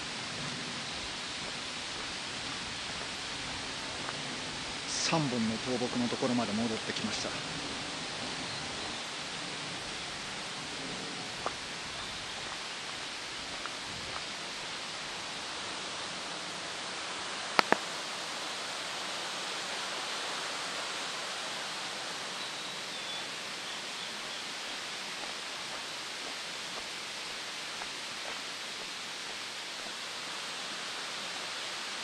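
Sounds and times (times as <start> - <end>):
rushing outdoor noise: 0.0 - 32.0.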